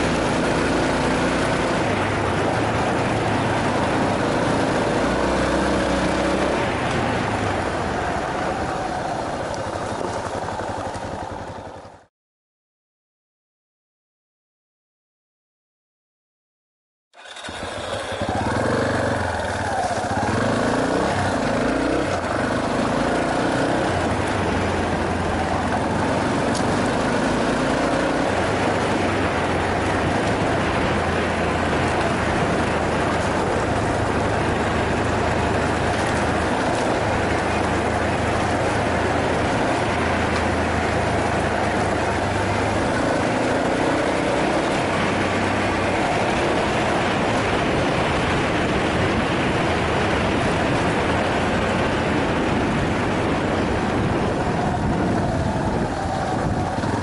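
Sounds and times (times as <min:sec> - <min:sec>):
motorcycle engine running: 0:00.0 - 0:12.1, 0:17.2 - 0:57.0
wind and road noise: 0:00.0 - 0:12.1, 0:17.2 - 0:57.0.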